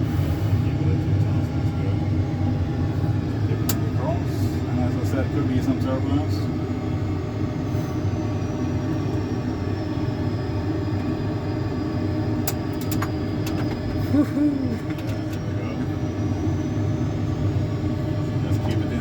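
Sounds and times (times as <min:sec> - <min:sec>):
jet engine and airflow rumble: 0:00.0 - 0:19.0.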